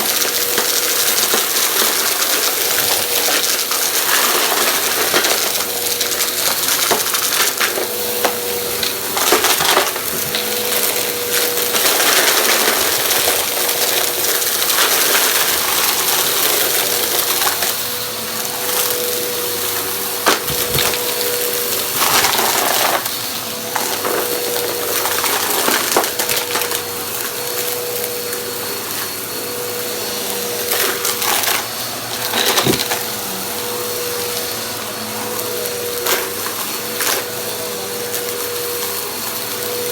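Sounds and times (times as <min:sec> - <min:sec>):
debris crackling in vacuum: 0:00.0 - 0:39.9
vacuum cleaner motor whine: 0:00.0 - 0:39.9.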